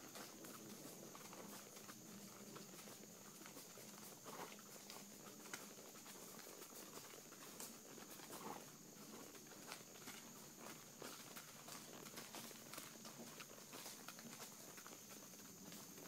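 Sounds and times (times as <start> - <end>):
horse hoofbeats: 0.0 - 16.0.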